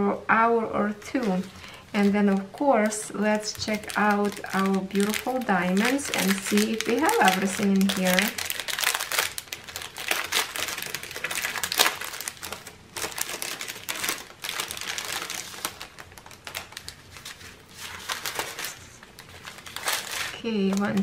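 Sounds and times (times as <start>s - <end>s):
plastic bags crinkling: 1.0s - 21.0s.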